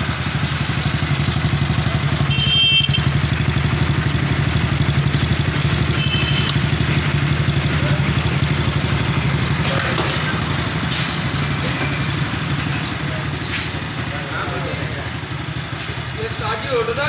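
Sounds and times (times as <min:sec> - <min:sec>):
small petrol engine idling: 0:00.0 - 0:17.0.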